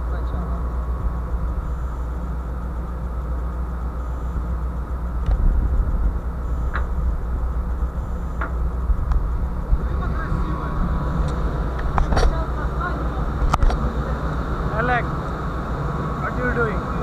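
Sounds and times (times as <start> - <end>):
ship machinery hum: 0.0 - 17.0.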